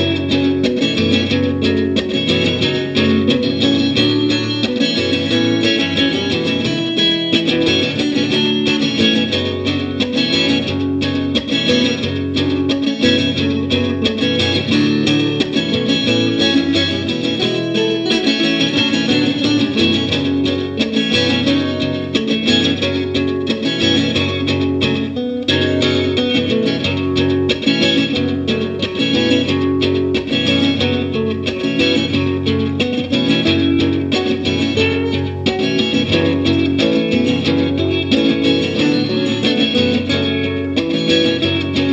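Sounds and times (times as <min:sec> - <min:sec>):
plucked guitar notes: 0:00.0 - 0:41.9.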